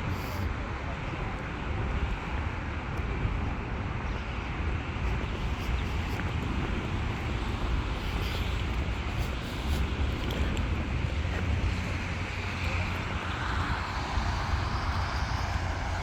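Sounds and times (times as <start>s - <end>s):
low traffic rumble: 0.0s - 16.0s
wind on microphone: 0.0s - 16.0s.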